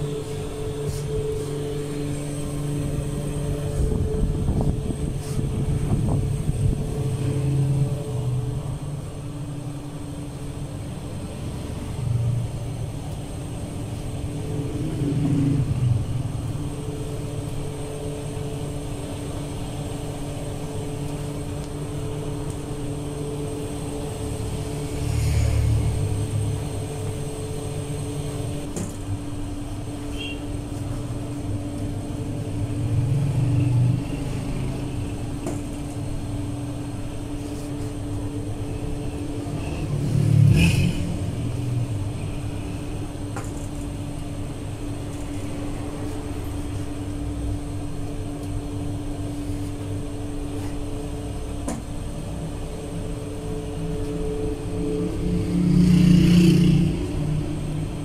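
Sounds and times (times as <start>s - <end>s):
gas oven burner and motor hum: 0.0s - 58.0s.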